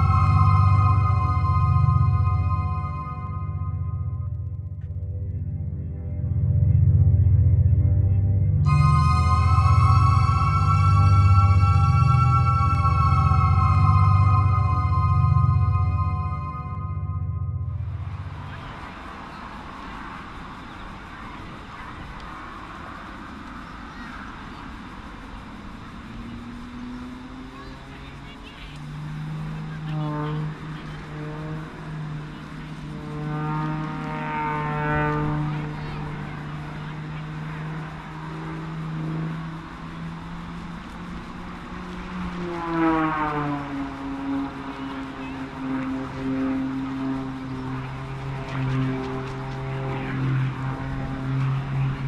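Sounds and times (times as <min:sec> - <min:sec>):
open-air rushing noise: 0:00.0 - 0:05.0, 0:08.6 - 0:52.0
distant aircraft engine drone: 0:00.0 - 0:52.0.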